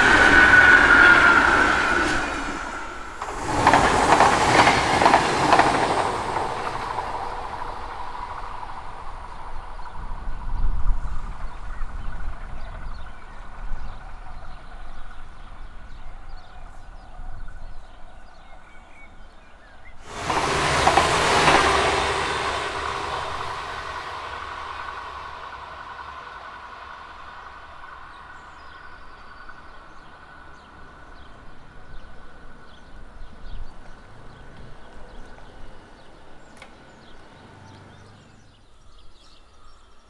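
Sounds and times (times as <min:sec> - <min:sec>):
train passing at speed: 0:00.0 - 0:40.0.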